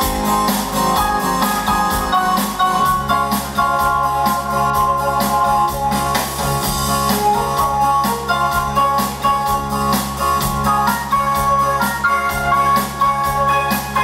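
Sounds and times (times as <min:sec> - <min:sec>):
organ and piano chords: 0:00.0 - 0:14.0
rock band playing: 0:00.0 - 0:14.0
steady drum beat: 0:00.0 - 0:14.0.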